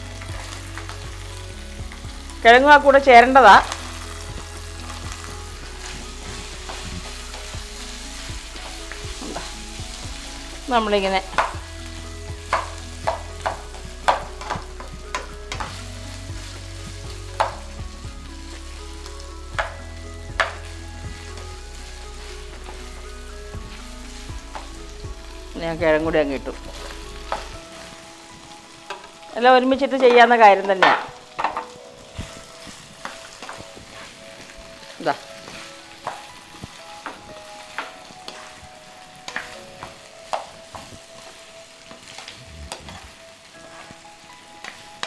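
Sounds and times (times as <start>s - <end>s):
vegetables sizzling in oil: 0.0s - 45.0s.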